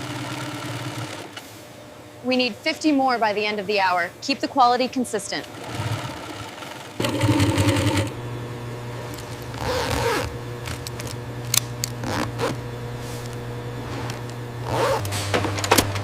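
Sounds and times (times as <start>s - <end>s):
factory machinery hum: 0.0s - 16.0s.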